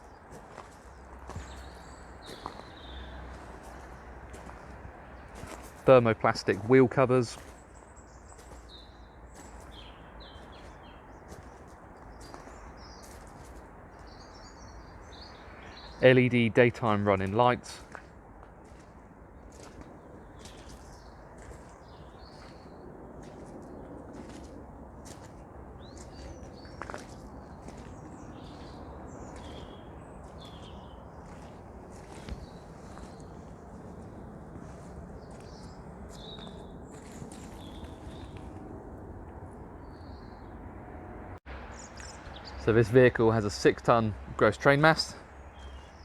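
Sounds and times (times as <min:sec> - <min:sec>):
small birds chirping: 0:00.0 - 0:05.8, 0:06.4 - 0:16.3, 0:17.5 - 0:38.7, 0:39.8 - 0:40.6, 0:41.7 - 0:42.9, 0:45.2 - 0:46.0
low outdoor background hum: 0:00.0 - 0:46.0.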